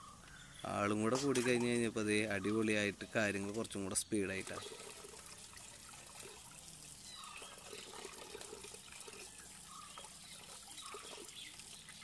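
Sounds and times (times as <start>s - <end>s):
water trickling and splashing: 1.0s - 12.0s.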